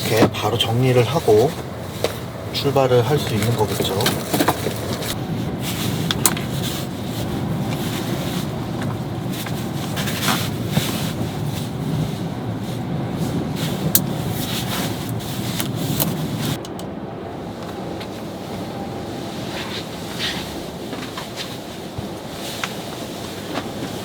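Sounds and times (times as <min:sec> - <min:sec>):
gusty sea wind rumble: 0:00.0 - 0:24.0.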